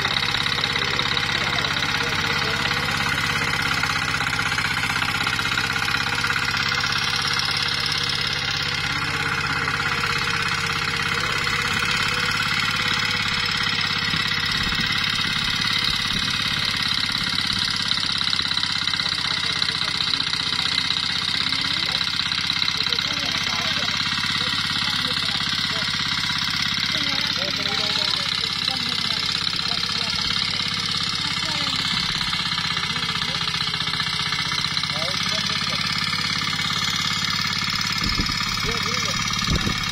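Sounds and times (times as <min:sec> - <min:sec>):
small tiller engine running: 0:00.0 - 0:39.9.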